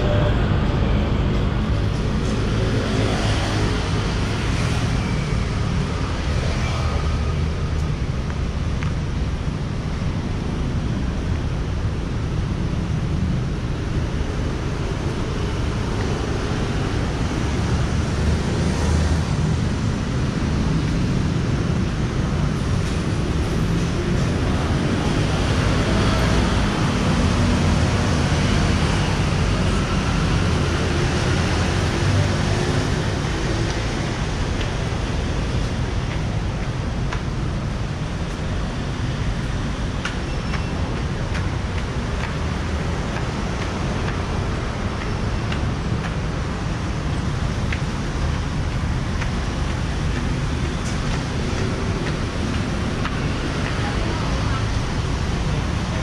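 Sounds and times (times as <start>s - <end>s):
busy road traffic rumble: 0.0s - 56.0s.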